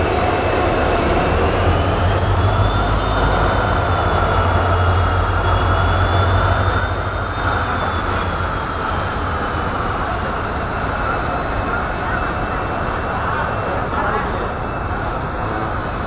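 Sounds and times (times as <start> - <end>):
freight wagons rumbling: 0.0 - 16.0
locomotive engine drone: 0.0 - 16.0
wheels squealing: 0.0 - 16.0.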